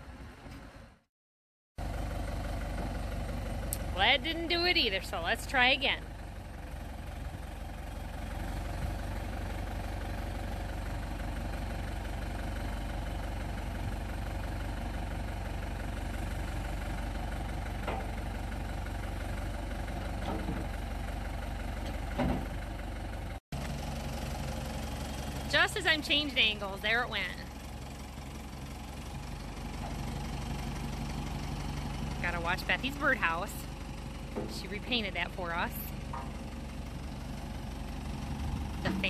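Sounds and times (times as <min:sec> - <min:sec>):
backhoe engine running: 0:01.8 - 0:39.0.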